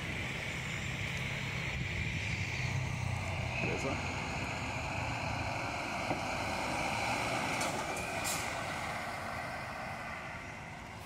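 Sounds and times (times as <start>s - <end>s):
coach diesel engine passing: 0.0s - 11.0s.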